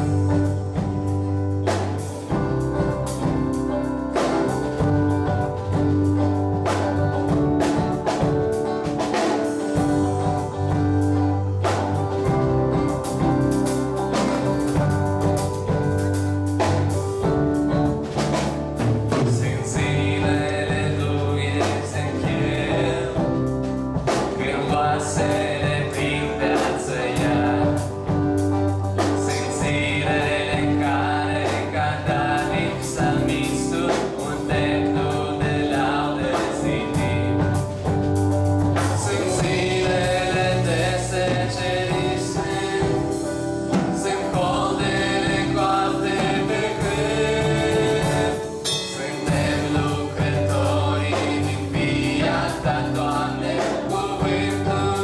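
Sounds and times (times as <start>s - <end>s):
drums: 0.0s - 55.0s
guitars: 0.0s - 55.0s
keyboard: 0.0s - 55.0s
people singing: 0.0s - 55.0s.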